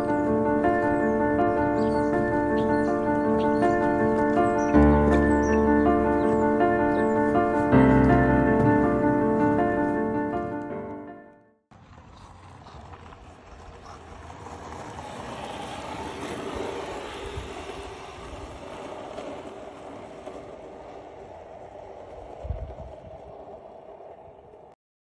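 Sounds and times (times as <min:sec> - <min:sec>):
skateboard wheels rolling on asphalt: 0:00.0 - 0:10.9, 0:11.7 - 0:24.8.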